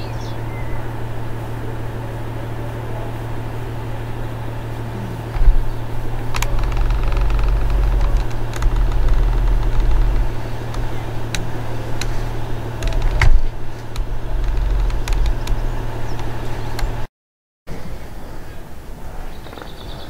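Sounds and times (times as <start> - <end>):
diesel locomotive engine hum: 0.0 - 17.1.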